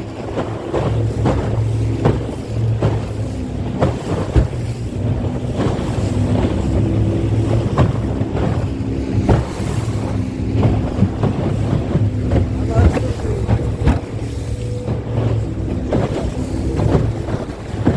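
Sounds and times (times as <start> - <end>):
engine running: 0.0 - 17.9
wind buffeting microphone: 0.0 - 17.9.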